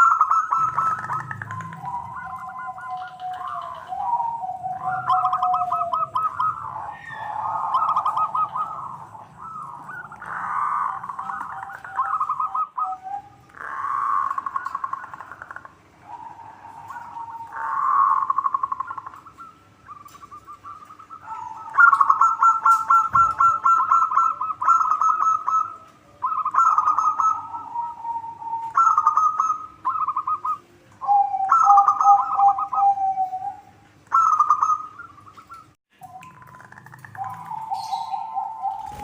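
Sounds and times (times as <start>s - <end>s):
doves cooing: 0.0s - 39.0s.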